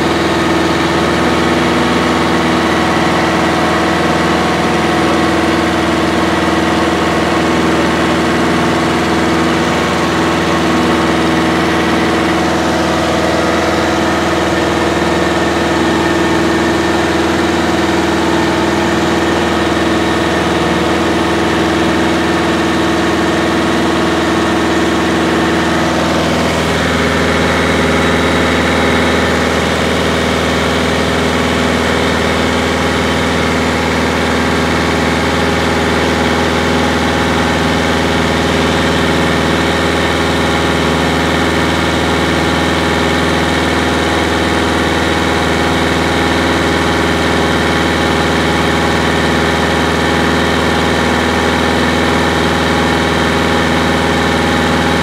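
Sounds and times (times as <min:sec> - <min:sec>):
airplane engine droning: 0:00.0 - 0:55.0.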